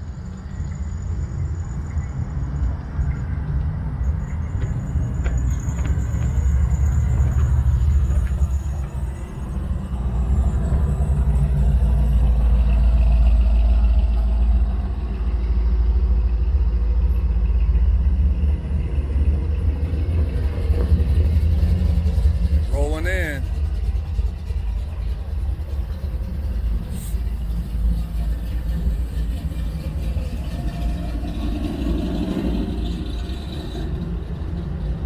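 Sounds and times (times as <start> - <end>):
cars driving past: 0.0 - 35.0.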